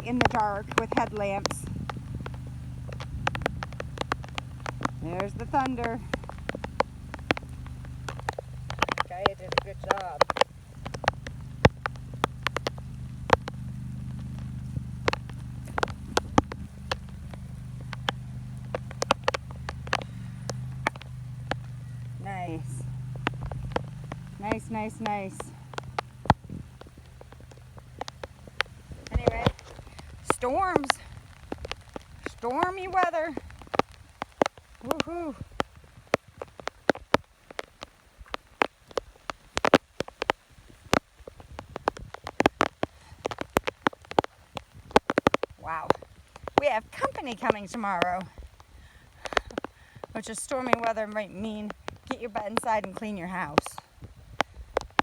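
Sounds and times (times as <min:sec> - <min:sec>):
lawn mower engine running: 0:00.0 - 0:55.0
sharp taps: 0:00.0 - 0:55.0.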